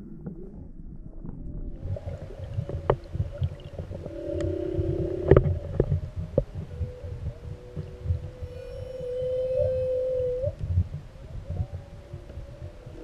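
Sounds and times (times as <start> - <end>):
low watery rumble: 0.0 - 13.0
whale song moaning: 2.0 - 13.0.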